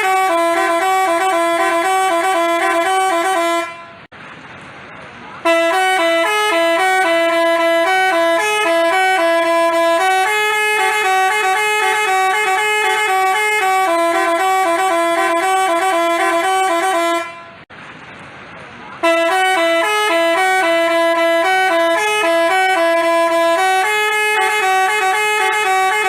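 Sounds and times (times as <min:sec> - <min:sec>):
multi-tone bus horn tune: 0:00.0 - 0:04.1, 0:05.4 - 0:17.7, 0:19.0 - 0:26.0.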